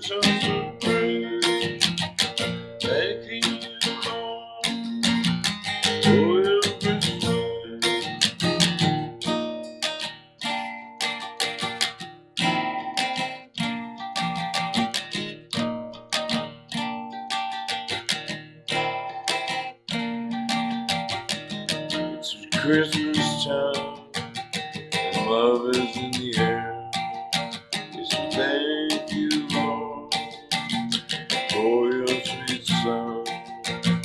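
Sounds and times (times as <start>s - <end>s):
acoustic guitar playing chords: 0.0s - 34.0s.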